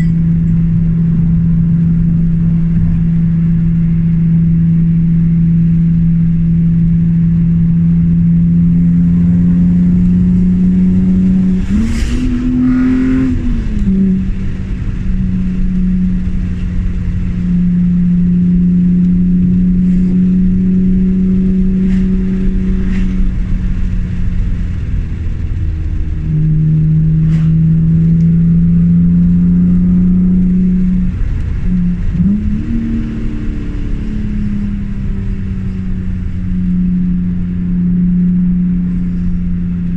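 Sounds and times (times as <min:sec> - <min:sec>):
car engine under load: 0:00.0 - 0:39.9.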